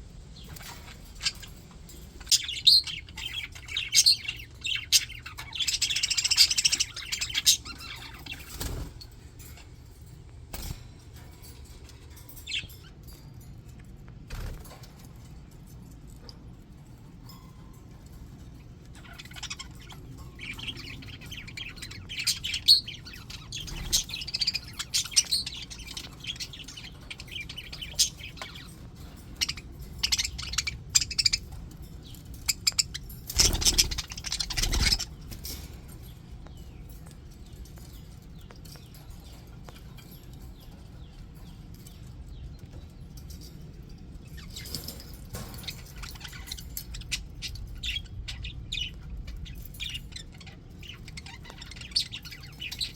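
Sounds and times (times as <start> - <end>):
budgies chattering and chirping: 0.0 - 52.9.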